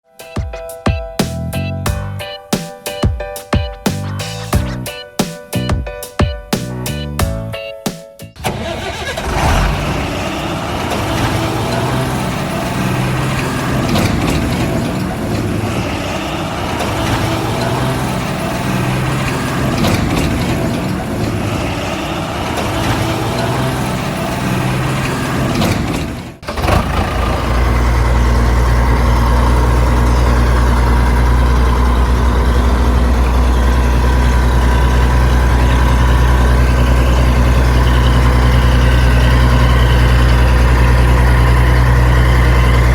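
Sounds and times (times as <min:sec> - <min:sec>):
diesel engine idling: 0:08.4 - 0:42.9
diesel engine running unevenly: 0:08.4 - 0:42.9.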